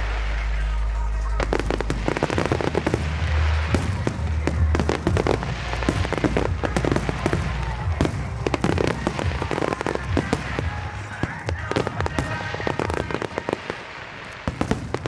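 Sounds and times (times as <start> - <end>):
low rumble: 0.0 - 13.0
fireworks bangs and crackles: 0.0 - 15.0.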